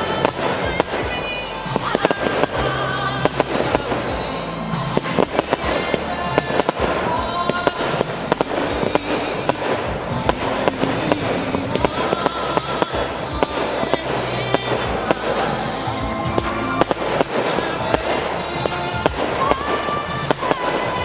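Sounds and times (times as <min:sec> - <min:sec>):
fireworks bangs and crackles: 0:00.0 - 0:21.0
music playing: 0:00.0 - 0:21.0.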